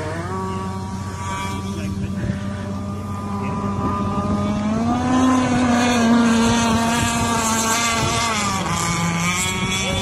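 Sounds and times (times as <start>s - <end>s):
speedboat motor whining: 0.0s - 10.0s.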